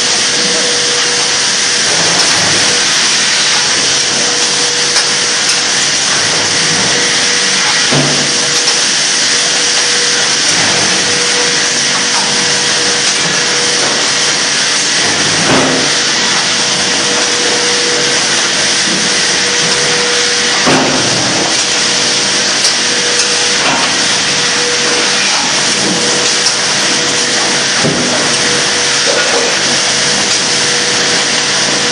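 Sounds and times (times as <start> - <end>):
mill machinery running: 0.0 - 31.9.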